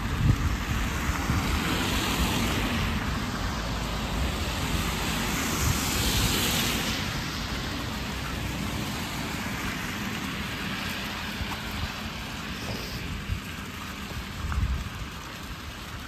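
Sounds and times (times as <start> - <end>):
car tyres hissing on wet road: 0.0 - 16.0.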